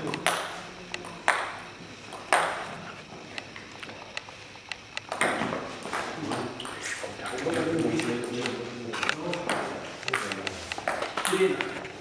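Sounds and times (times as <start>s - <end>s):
table tennis ball bouncing: 0.0s - 3.5s, 4.2s - 11.8s.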